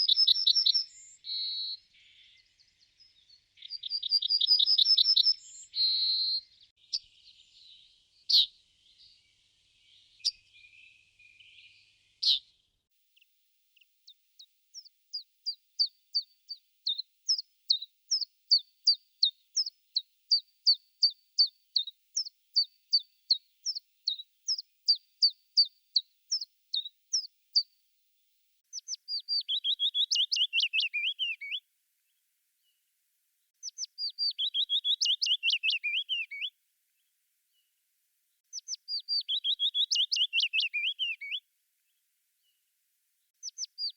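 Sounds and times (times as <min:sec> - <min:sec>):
songbird chirping: 0:00.0 - 0:43.9.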